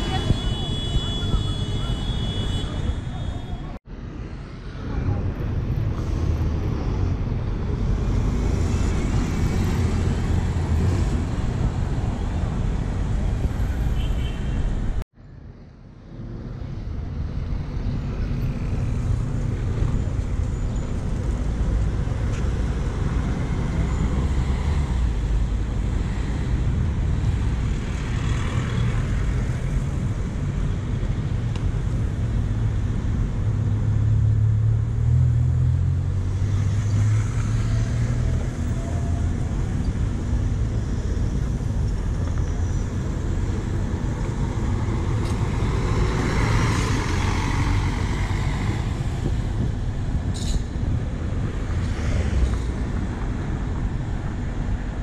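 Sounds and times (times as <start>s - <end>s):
low traffic rumble: 0.0s - 55.0s.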